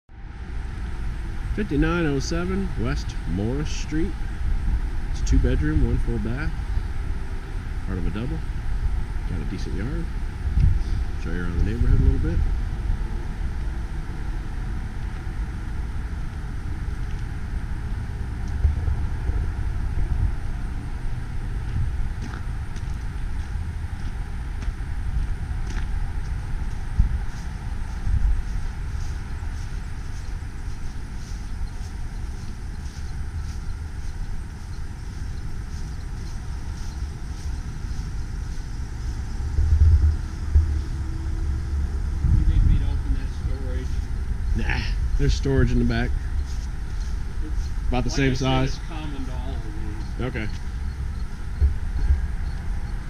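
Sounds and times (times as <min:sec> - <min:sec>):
wind buffeting microphone: 0:00.4 - 0:53.0.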